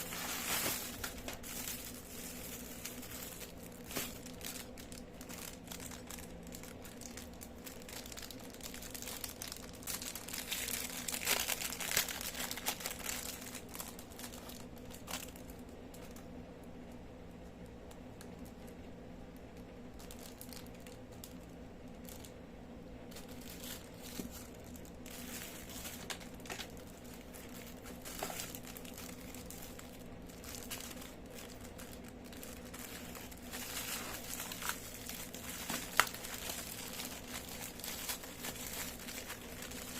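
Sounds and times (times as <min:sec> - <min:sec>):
packaging crinkling and tearing: 0:00.0 - 0:16.3, 0:20.0 - 0:22.3, 0:23.1 - 0:39.9
faint steady hum: 0:00.0 - 0:39.9.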